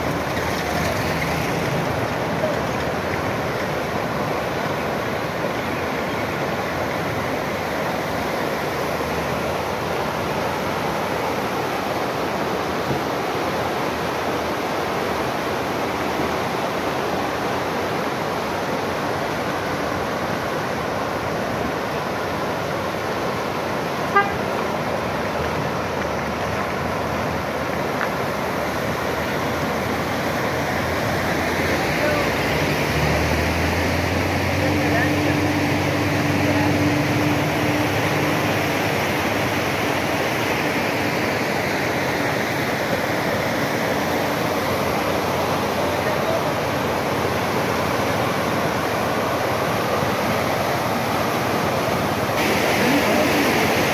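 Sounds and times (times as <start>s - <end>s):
river rushing: 0.0s - 53.9s.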